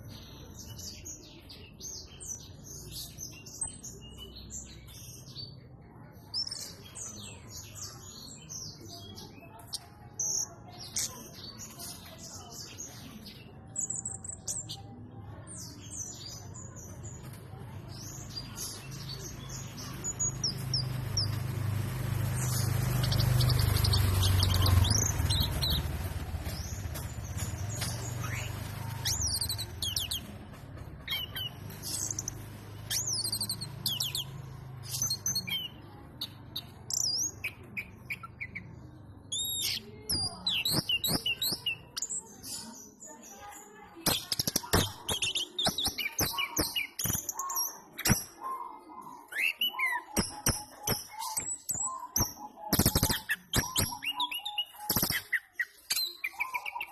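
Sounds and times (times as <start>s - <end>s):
songbird chirping and singing: 0.0s - 56.9s.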